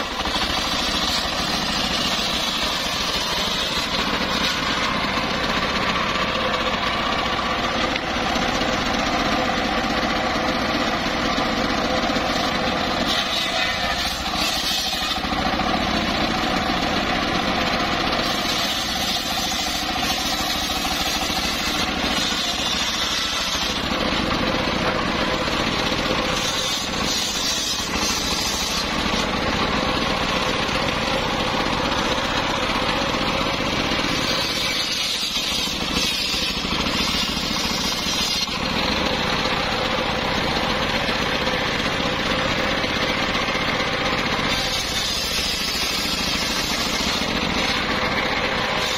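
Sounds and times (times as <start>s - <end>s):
circular saw engine running: 0.0s - 48.9s
saw blade cutting wood: 0.0s - 48.9s.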